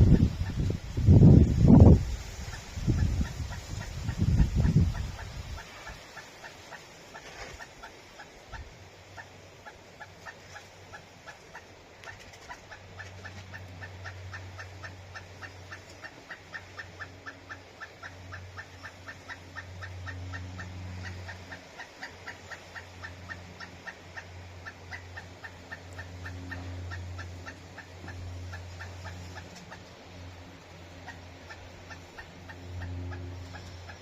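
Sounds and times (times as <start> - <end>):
woodpecker calling: 1.7 - 34.0.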